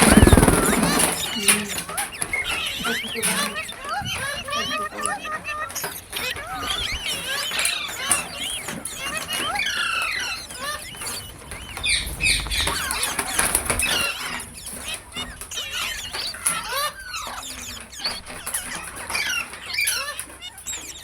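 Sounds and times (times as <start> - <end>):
parakeet chattering: 0.0 - 21.0.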